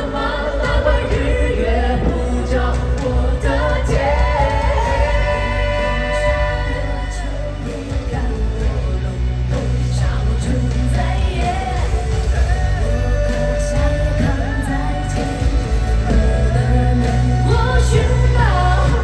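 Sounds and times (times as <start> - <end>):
pop-rock band playing live: 0.0 - 19.0.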